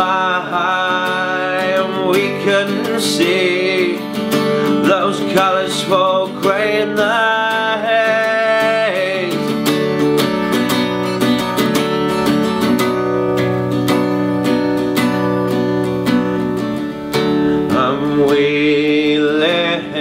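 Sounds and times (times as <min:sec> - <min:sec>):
acoustic guitar strummed chords: 0:00.0 - 0:20.0.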